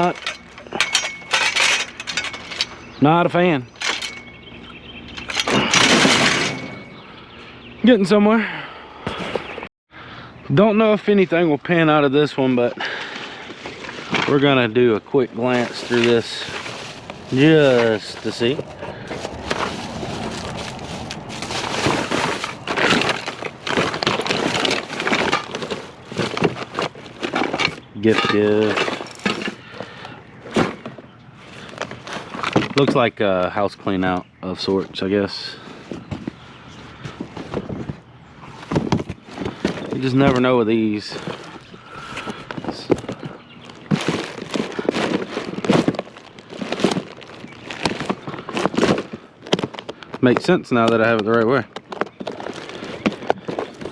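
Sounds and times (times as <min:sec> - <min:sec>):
hands rummaging through items: 0:00.0 - 0:07.8, 0:12.0 - 0:53.9.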